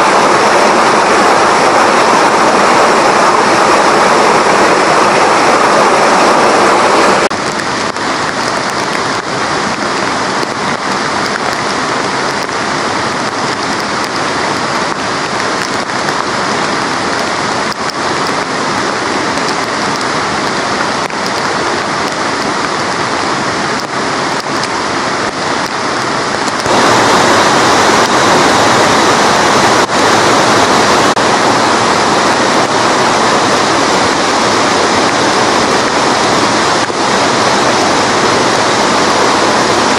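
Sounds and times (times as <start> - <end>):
rain falling: 0.0 - 39.9
river water rushing: 0.0 - 39.9.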